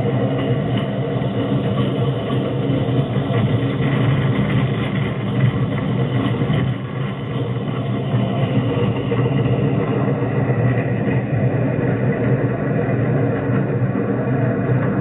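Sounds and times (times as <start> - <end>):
rail cart engine running: 0.0 - 15.0.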